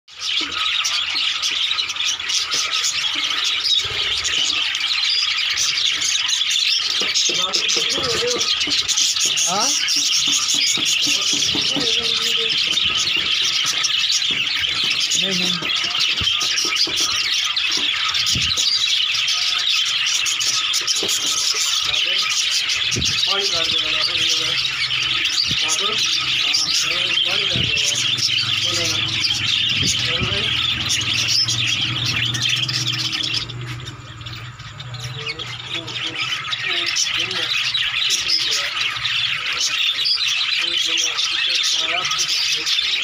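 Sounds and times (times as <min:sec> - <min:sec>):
budgerigars chattering: 0:00.1 - 0:43.0.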